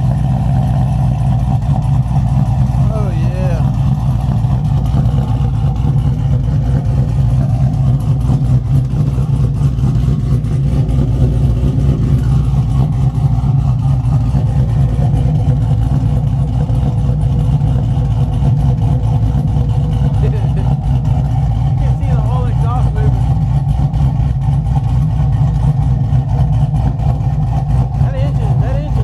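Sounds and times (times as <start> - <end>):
engine exhaust running steadily: 0.0 - 29.0.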